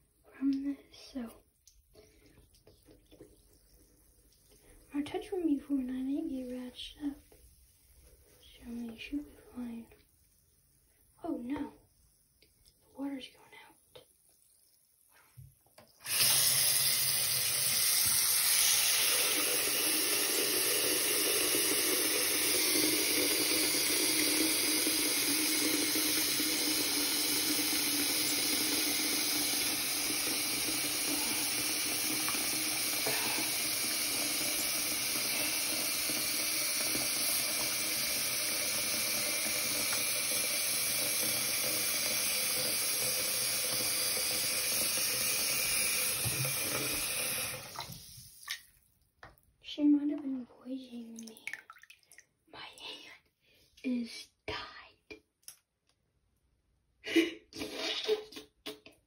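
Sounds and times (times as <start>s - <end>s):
faucet running into basin: 0.0s - 12.8s, 14.2s - 48.8s, 51.0s - 52.3s.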